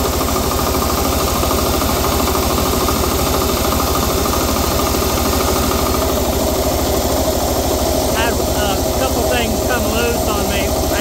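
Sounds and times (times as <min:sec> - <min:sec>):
diesel generator idling: 0:00.0 - 0:11.0.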